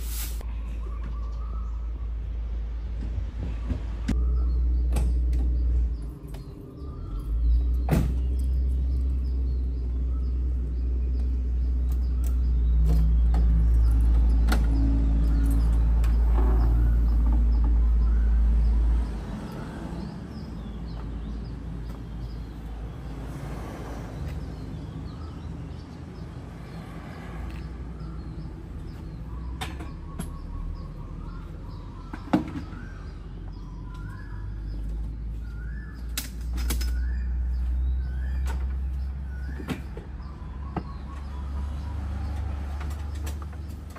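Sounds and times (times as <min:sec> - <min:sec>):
small birds chirping: 0:00.4 - 0:43.9.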